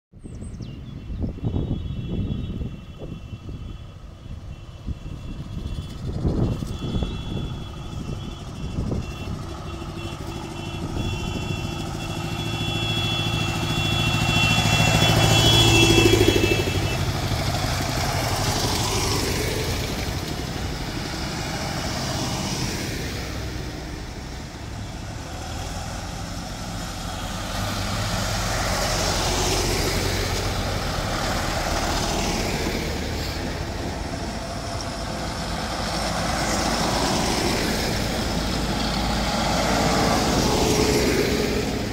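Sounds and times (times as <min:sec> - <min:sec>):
tractor diesel engines passing: 0:00.2 - 0:41.9.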